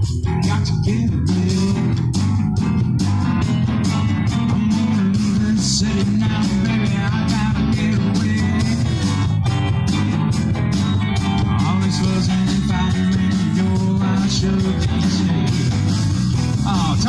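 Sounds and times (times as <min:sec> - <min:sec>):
bass guitar: 0:00.0 - 0:17.0
guitar lead with bent notes: 0:00.0 - 0:17.0
steady drums: 0:00.0 - 0:17.0.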